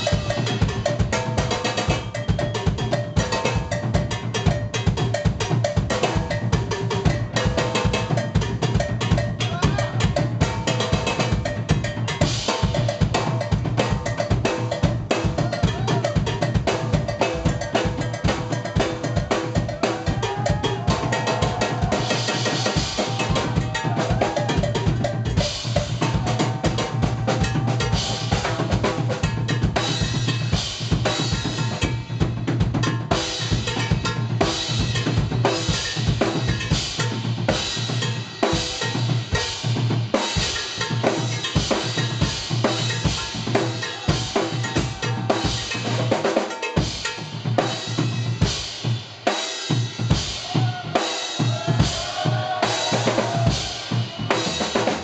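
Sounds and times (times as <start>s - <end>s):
drum kit playing rapid hits: 0.0s - 55.0s.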